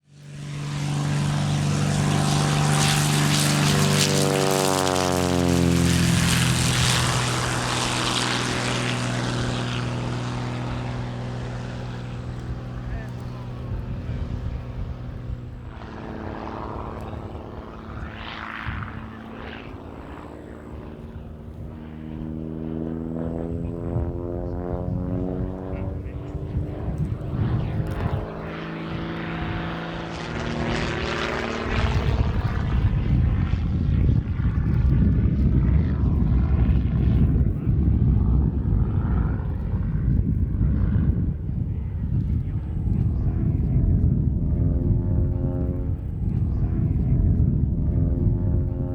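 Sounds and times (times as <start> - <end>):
biplane engine and propeller: 0.0 - 48.9.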